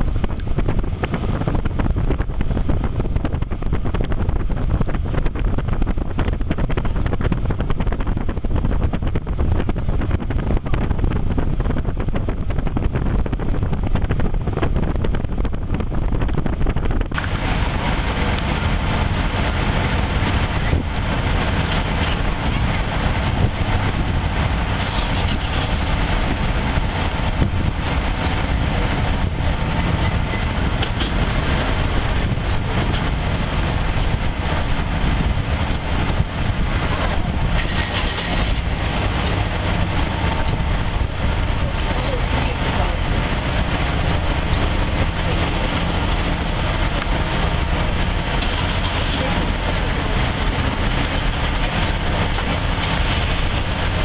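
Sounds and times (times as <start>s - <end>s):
ferry engine rumble: 0.0s - 54.0s
wind buffeting microphone: 0.0s - 54.0s.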